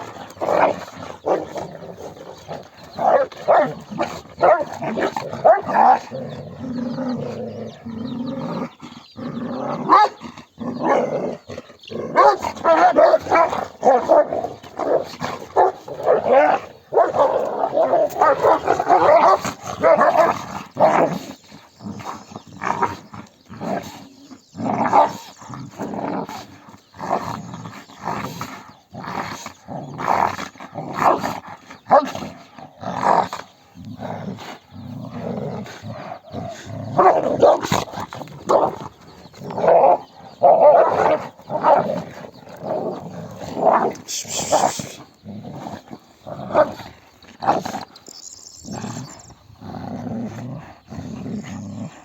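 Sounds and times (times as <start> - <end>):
dogs barking: 0.0 - 9.0, 9.6 - 27.4, 29.1 - 49.3
dogs growling: 0.0 - 52.0.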